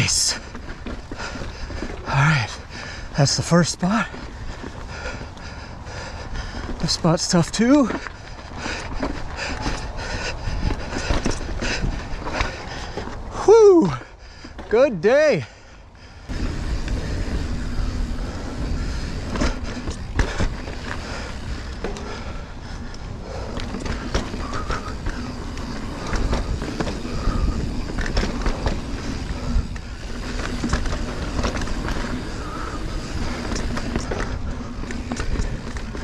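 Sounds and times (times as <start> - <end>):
bike chain and frame clattering: 0.0 - 14.8, 16.2 - 36.0
bike tyres rumbling on dirt: 0.0 - 36.0.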